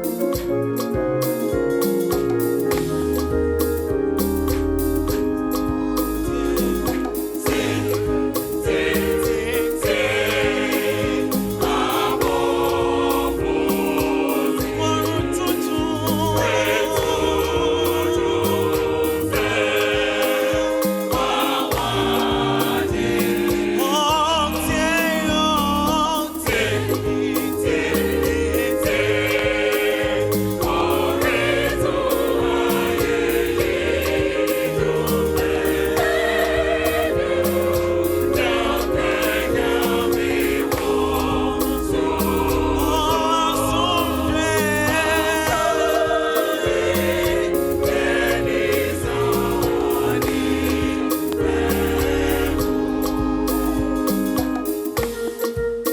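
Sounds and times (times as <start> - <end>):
band accompaniment with steady beat: 0.0 - 55.9
choir singing gospel music: 0.0 - 55.9.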